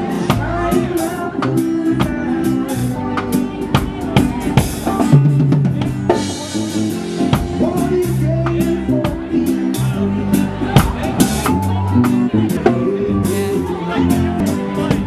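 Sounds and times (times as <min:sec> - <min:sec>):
band music: 0:00.0 - 0:15.0
drum kit beat: 0:00.0 - 0:15.0
held bass line: 0:00.0 - 0:15.0.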